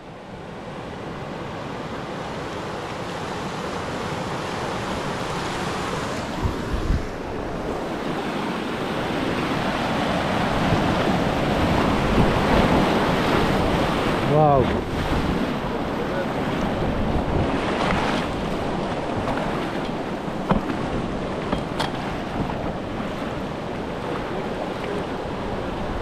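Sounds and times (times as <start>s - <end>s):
low wind buffets: 3.3s - 26.0s
wind on microphone: 4.6s - 26.0s.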